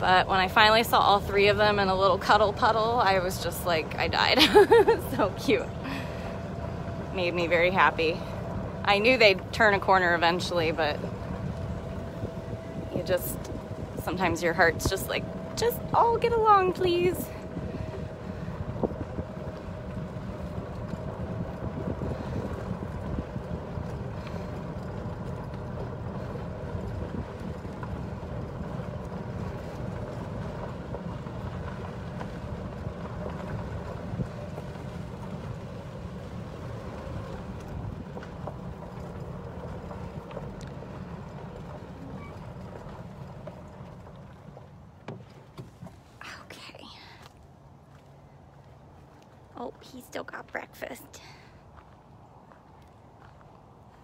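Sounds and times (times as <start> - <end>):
wind on microphone: 0.0 - 43.9
cart motor and tyres rumbling: 0.0 - 54.0.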